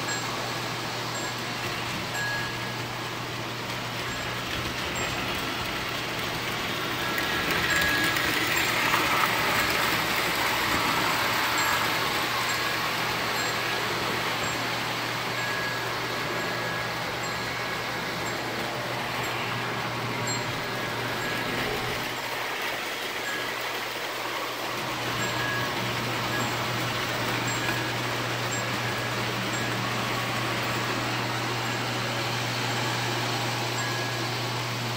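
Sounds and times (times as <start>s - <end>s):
toy train whirring rattle: 0.0s - 34.9s.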